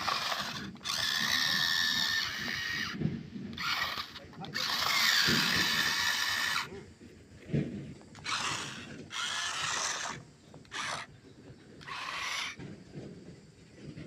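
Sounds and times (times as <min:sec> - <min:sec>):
toy truck motor whirring: 0:00.0 - 0:13.0.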